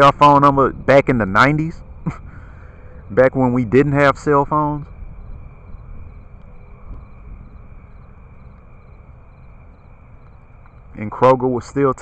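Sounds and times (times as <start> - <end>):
crickets chirping faintly: 0.0 - 12.0
low background rumble: 0.0 - 12.0.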